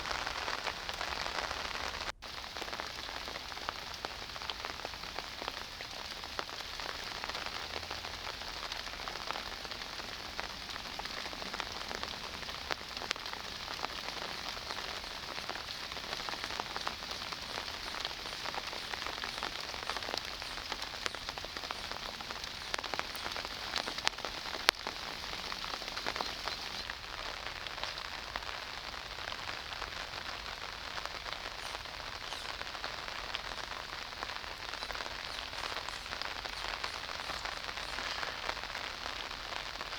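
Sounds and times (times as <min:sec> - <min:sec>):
raindrop ticks pattering: 0:00.0 - 0:39.9
steady rain falling: 0:00.0 - 0:39.9.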